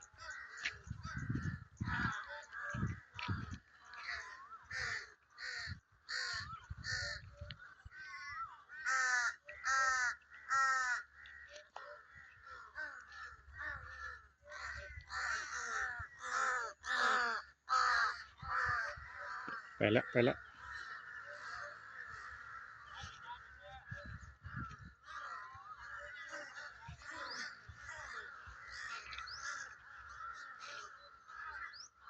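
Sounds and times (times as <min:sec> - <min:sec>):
crows cawing: 0:00.0 - 0:32.0.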